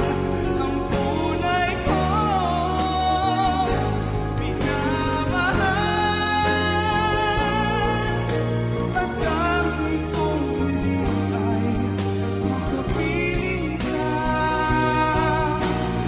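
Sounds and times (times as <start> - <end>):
instrumental backing music: 0.0 - 16.0
man singing: 0.0 - 16.0.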